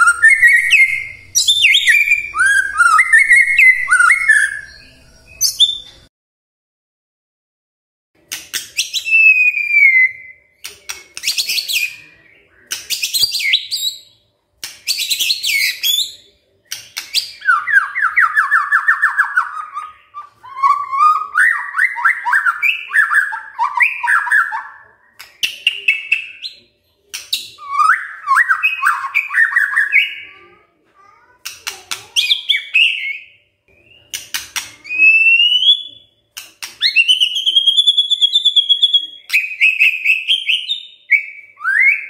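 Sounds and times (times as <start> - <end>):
songbird whistling and chattering: 0.0 - 6.0, 8.5 - 14.2, 14.8 - 30.4, 31.9 - 42.0.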